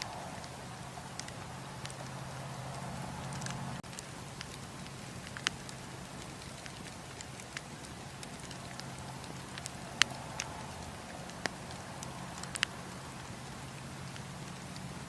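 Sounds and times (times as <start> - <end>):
campfire cracking and popping: 0.0 - 15.0
campfire low rush: 0.0 - 15.0.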